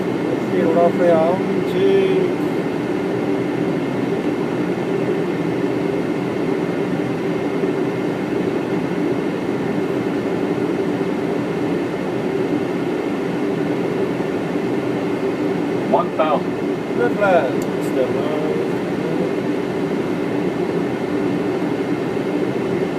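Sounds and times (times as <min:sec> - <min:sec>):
cockpit engine and airflow rumble: 0:00.0 - 0:22.9.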